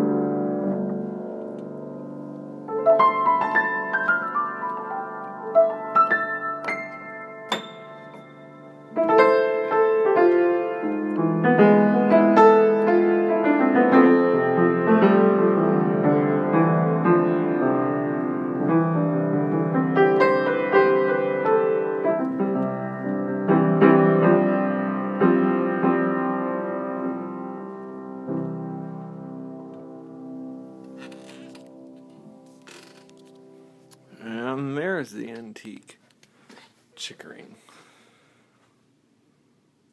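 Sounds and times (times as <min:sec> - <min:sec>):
grand piano playing: 0:00.0 - 0:34.9.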